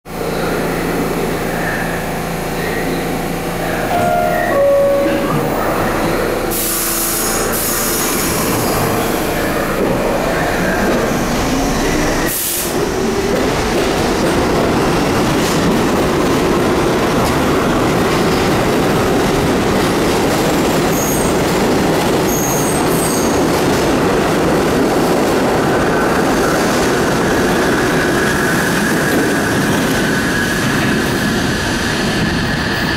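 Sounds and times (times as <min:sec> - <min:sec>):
subway train running on rails: 0:00.0 - 0:32.9.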